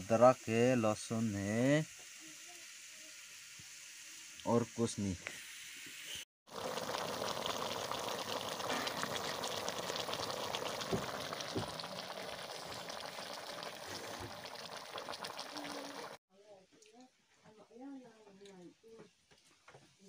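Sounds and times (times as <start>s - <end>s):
curry sizzling and bubbling: 0.0s - 16.2s.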